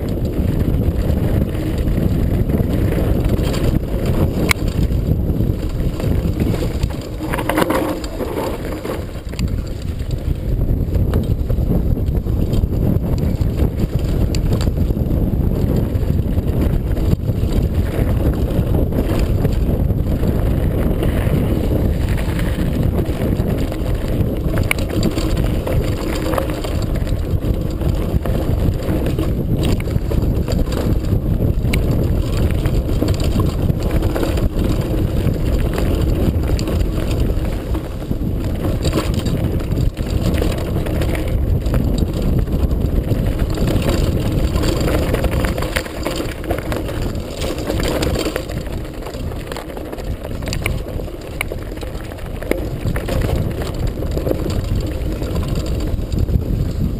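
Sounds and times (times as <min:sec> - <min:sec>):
bike rattling clicks and knocks: 0:00.0 - 0:56.9
tyres on gravel trail: 0:00.0 - 0:56.9
wind buffeting microphone: 0:00.0 - 0:56.9.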